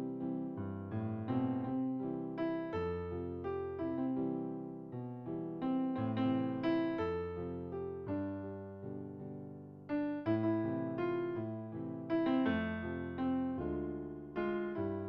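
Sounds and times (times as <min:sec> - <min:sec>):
solo piano melody: 0:00.0 - 0:15.0.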